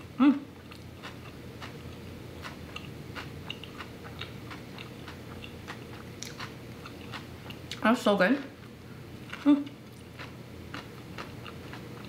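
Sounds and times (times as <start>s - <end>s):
person chewing food: 0.6s - 7.8s, 8.6s - 12.0s.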